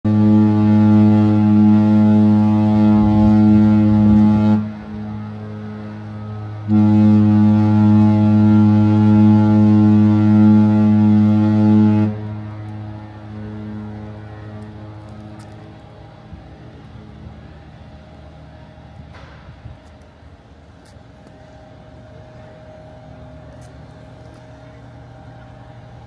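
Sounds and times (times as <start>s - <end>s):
deep ship horn blasts: 0.0s - 26.0s.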